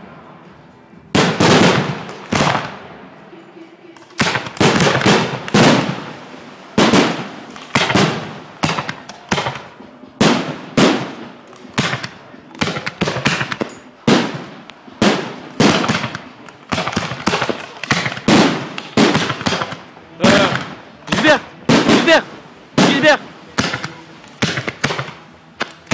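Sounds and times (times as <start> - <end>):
fireworks bangs with echoing rumble: 1.1 - 3.1, 4.0 - 25.9.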